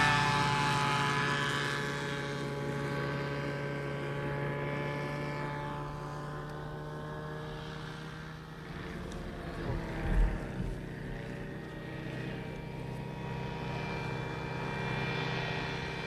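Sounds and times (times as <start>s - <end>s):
microlight engine and propeller: 0.0s - 16.0s.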